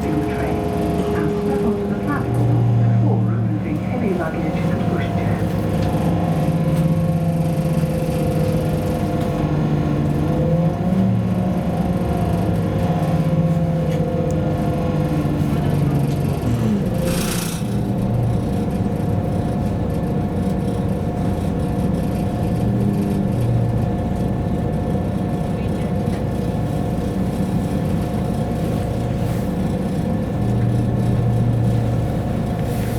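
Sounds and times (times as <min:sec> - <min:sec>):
train diesel engine hum: 0:00.0 - 0:32.9
wheels rumbling on track: 0:00.0 - 0:32.9.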